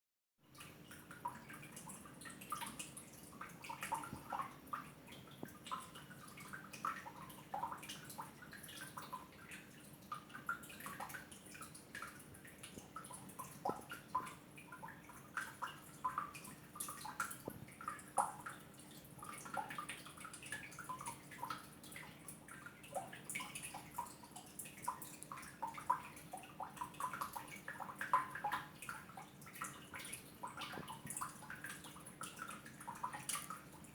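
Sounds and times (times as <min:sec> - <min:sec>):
water dripping and splashing: 0:00.5 - 0:33.9.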